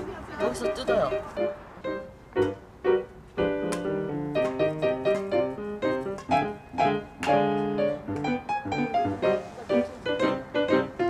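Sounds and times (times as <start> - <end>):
piano music: 0.3 - 11.0.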